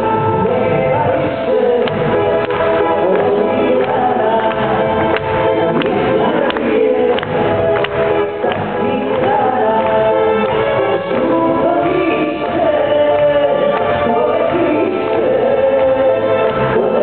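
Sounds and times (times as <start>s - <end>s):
live folk-pop band: 0.0s - 17.0s
woman singing: 0.0s - 17.0s.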